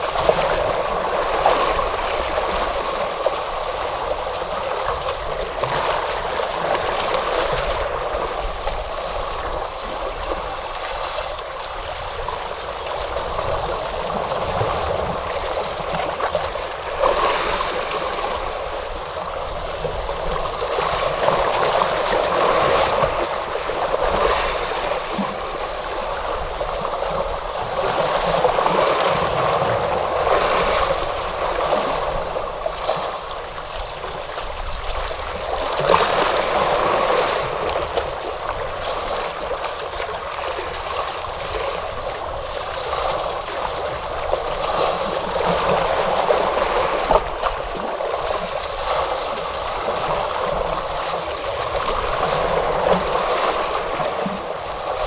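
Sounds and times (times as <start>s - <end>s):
ocean waves on shore: 0.0s - 55.0s.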